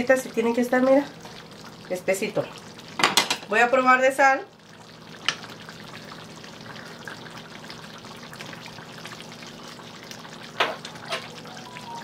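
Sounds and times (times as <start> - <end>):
salsa sizzling and bubbling in pan: 0.0 - 12.0.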